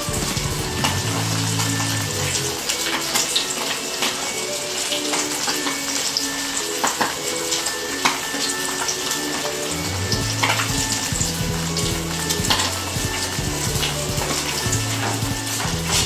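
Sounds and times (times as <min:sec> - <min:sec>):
water boiling in a pot: 0:00.0 - 0:16.0.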